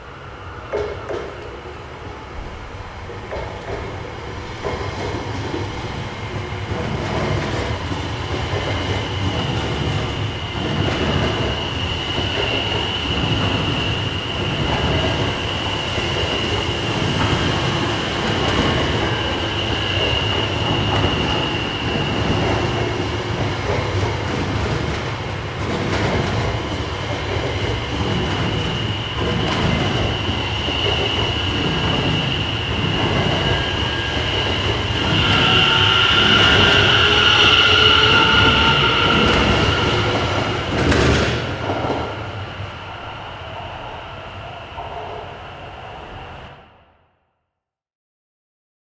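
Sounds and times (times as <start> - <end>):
train wheels rumbling on rails: 0.0 - 46.6
high train whine: 0.0 - 46.9.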